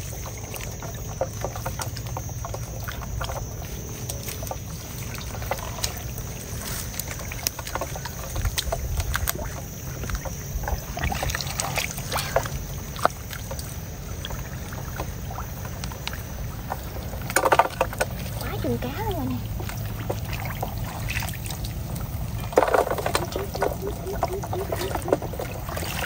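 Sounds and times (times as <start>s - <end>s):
squelches and splashes in mud: 0.0s - 26.0s.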